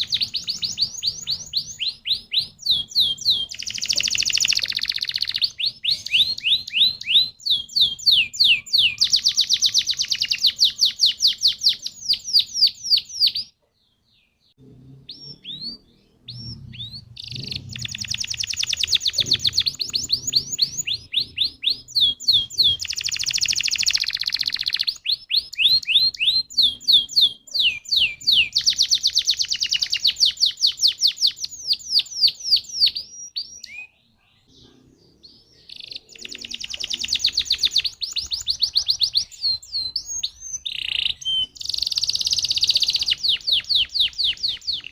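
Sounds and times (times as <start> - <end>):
canary trilling: 0.0 - 13.6, 14.6 - 34.0, 34.6 - 44.9.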